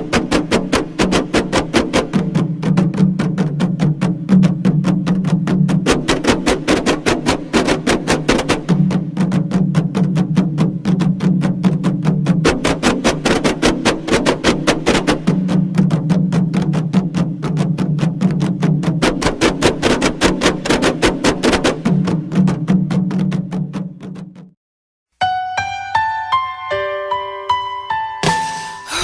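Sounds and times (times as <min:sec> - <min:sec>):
hand-drum ensemble playing: 0:00.0 - 0:24.5, 0:28.2 - 0:29.0.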